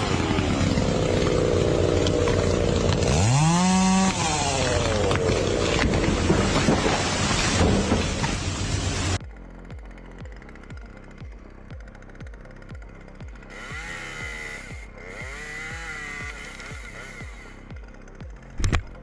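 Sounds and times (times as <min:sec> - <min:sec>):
chainsaw running and cutting: 0:00.0 - 0:19.0.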